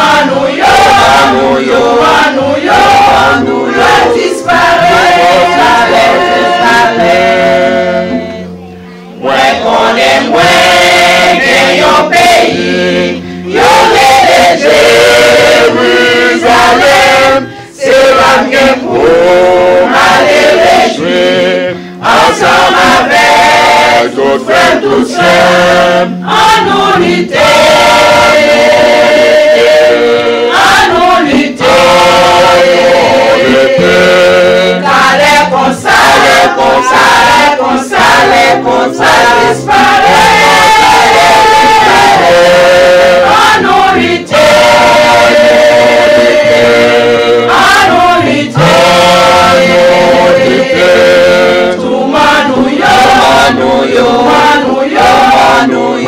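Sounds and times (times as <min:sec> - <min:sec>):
women's choir singing a hymn: 0:00.0 - 0:56.0.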